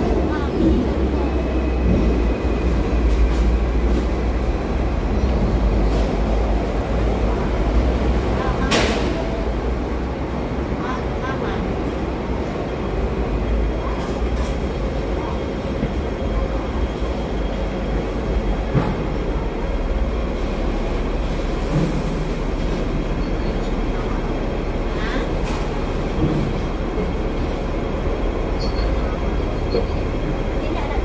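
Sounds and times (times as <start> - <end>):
street traffic: 0.0 - 31.0
tram rumble and hum: 0.0 - 31.0.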